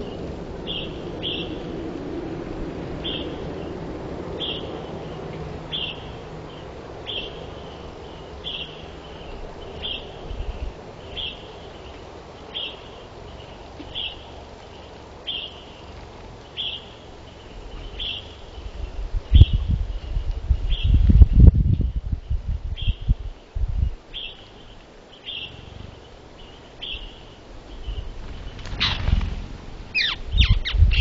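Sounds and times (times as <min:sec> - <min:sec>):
small bird chirping: 0:00.0 - 0:01.7, 0:04.4 - 0:31.0
low wind rumble: 0:00.0 - 0:31.0.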